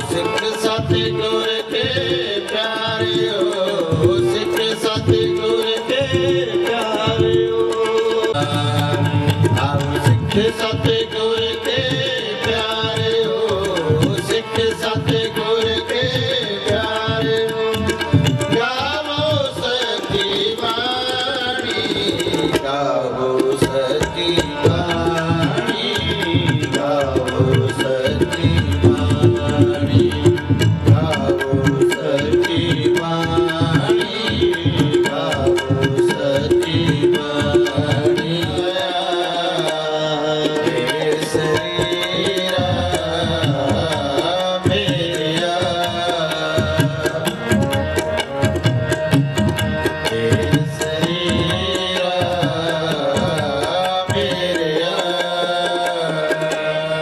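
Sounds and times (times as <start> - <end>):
harmoniums: 0.0 - 57.0
tabla played quickly: 0.0 - 57.0.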